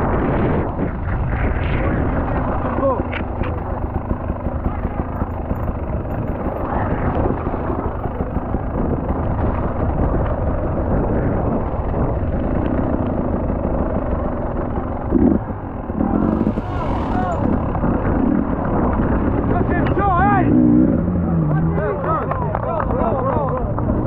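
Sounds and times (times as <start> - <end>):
motorcycle engine racing: 0.0 - 24.0.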